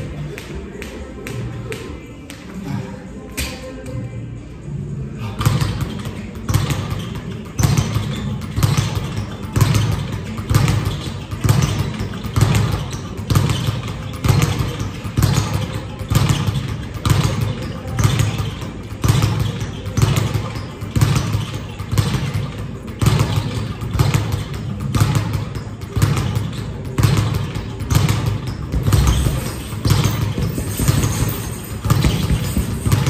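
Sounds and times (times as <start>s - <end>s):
constant background noise: 0.0s - 33.0s.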